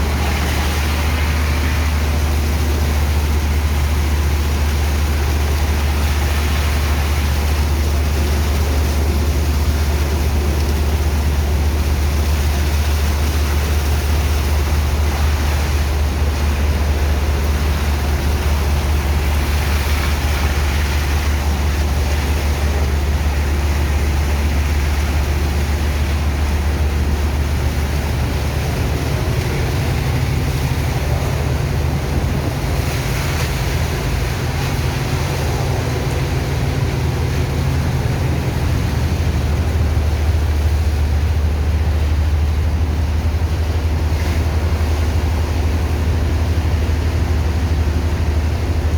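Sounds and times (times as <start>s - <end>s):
heavy pump engine droning: 0.0s - 48.9s.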